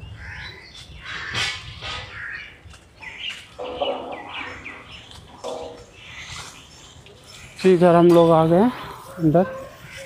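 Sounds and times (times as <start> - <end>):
birds chirping and calling: 0.0 - 10.0.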